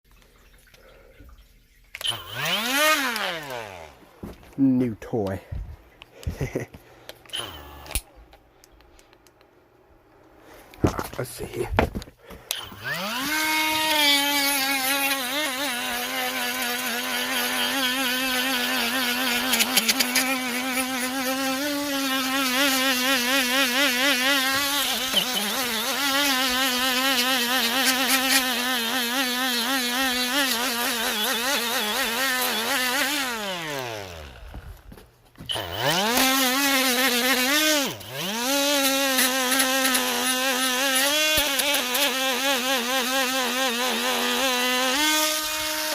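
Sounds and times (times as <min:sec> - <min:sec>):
die grinder whining: 0:02.0 - 0:04.4, 0:06.2 - 0:08.1, 0:11.8 - 0:45.9.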